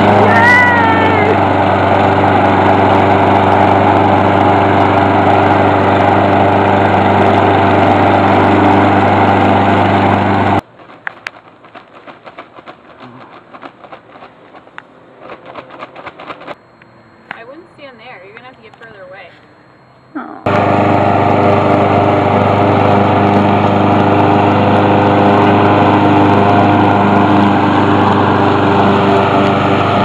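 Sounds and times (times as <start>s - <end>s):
lawn mower running: 0.0s - 16.6s, 20.4s - 30.0s.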